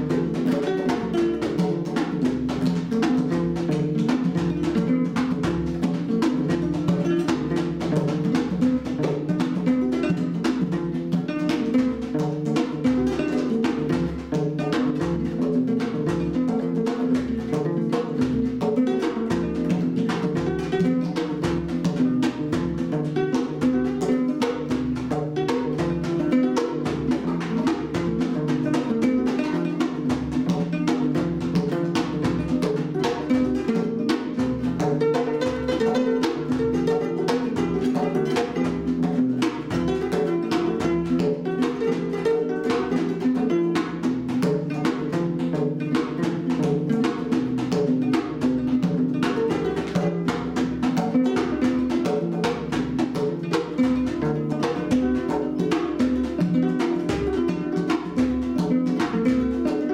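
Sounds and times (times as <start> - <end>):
djembe drum beats: 0.0 - 59.9
plucked kora: 0.0 - 59.9.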